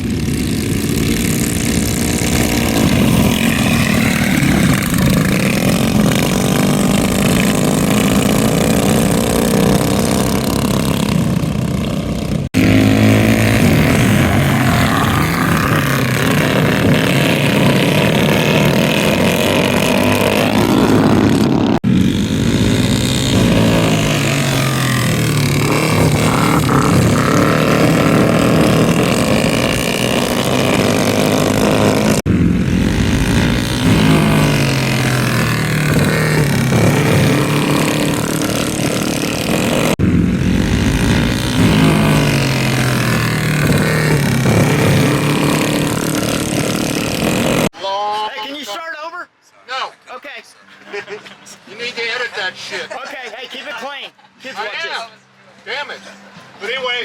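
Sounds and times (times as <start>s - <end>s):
mini bike engines racing: 0.0s - 47.8s.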